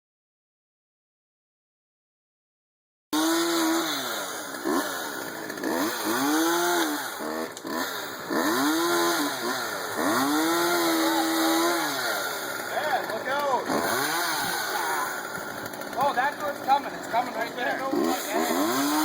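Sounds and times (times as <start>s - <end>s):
chainsaw engine revving: 3.2s - 19.0s.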